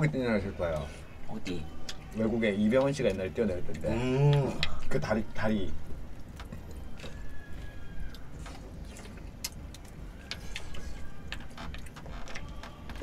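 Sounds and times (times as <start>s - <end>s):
low steady hum: 0.0s - 13.0s
eating noises: 0.6s - 5.2s, 5.8s - 13.0s.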